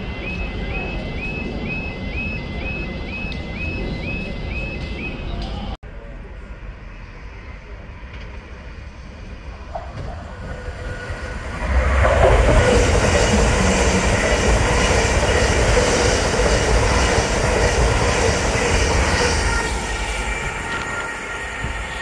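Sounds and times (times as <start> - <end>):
electric train passing: 0.0 - 22.0
wheels rushing on rail: 0.0 - 22.0.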